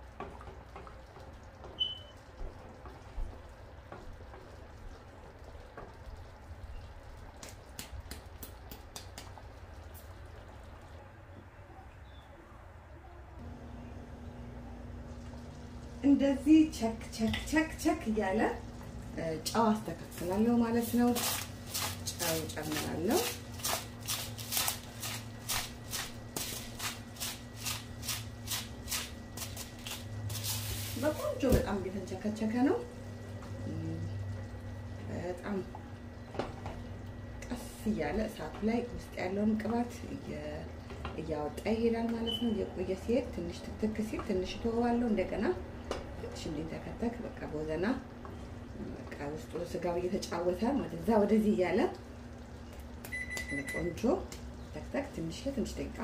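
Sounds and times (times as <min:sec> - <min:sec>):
stew bubbling in a pot: 0:00.0 - 0:11.7, 0:13.4 - 0:56.0.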